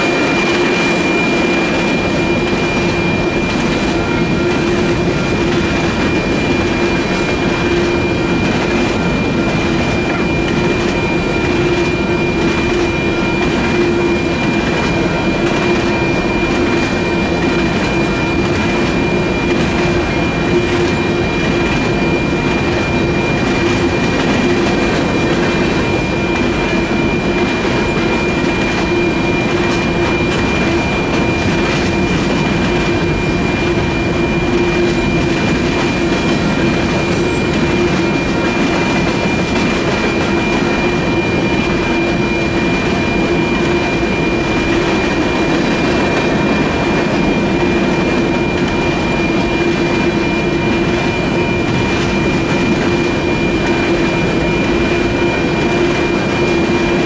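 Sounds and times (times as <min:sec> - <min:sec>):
crossing bells ringing: 0:00.0 - 0:57.0
freight train wheels on rails: 0:00.0 - 0:57.0.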